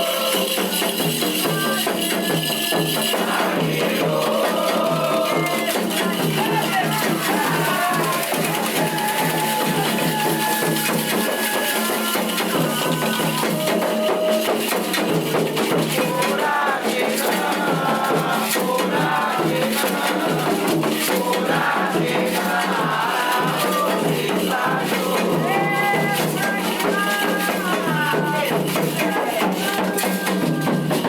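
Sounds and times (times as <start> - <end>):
hand percussion: 0.0 - 31.0
ritual song singing: 0.0 - 31.0
shakers and rattles: 0.0 - 31.0.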